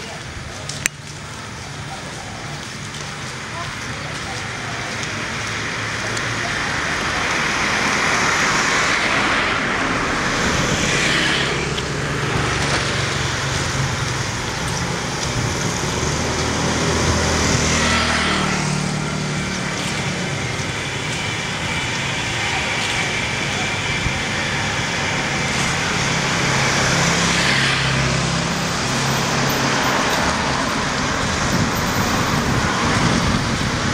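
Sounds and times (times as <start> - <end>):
motor scooters passing: 0.0 - 33.9
car passing: 3.6 - 33.9.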